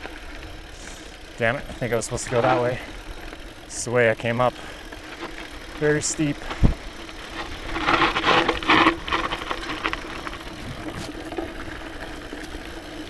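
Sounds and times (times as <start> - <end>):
bike rattling: 0.0 - 13.0
bike tyres crunching over dirt: 0.0 - 13.0
steady buzz: 0.0 - 13.0.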